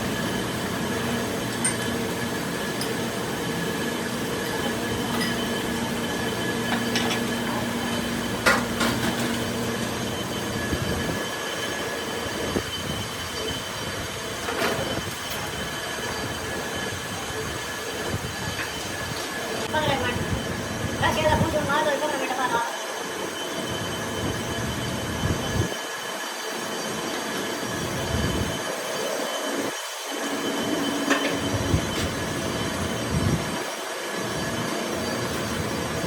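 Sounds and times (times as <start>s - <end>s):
workshop machine metallic whine: 0.0s - 36.0s.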